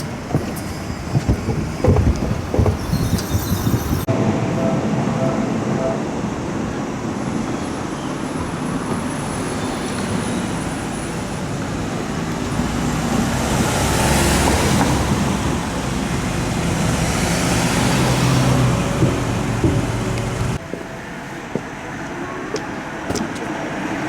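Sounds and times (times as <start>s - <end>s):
street background noise: 0.0s - 24.0s
vehicles passing: 3.7s - 24.0s.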